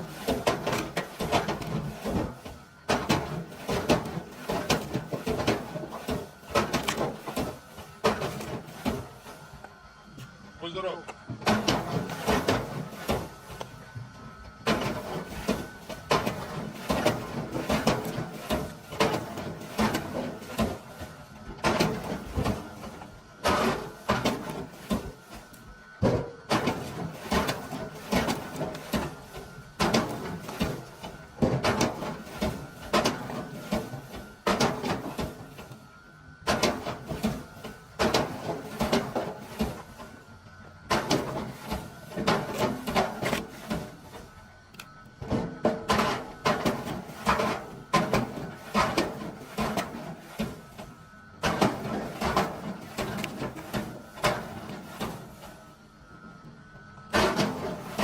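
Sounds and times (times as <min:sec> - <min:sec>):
machinery whine: 0:00.0 - 0:58.0.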